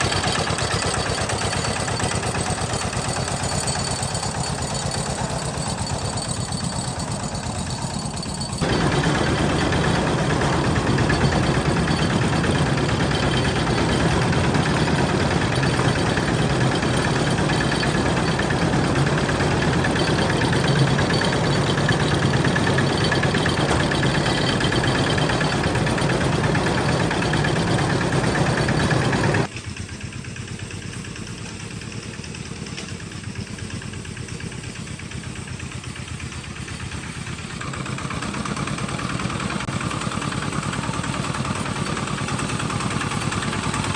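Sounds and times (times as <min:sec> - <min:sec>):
tractor engine chugging: 0:00.0 - 0:43.9.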